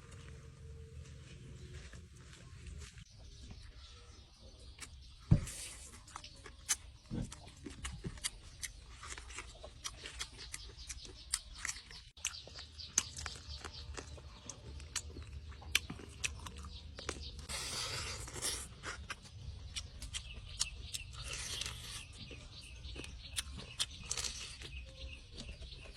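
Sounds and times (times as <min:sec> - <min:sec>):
person chewing and crunching: 0:04.7 - 0:25.9.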